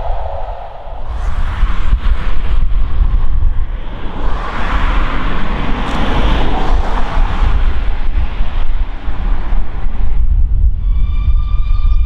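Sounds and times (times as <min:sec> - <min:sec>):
heavy wind rumble on microphone: 0:00.0 - 0:12.0.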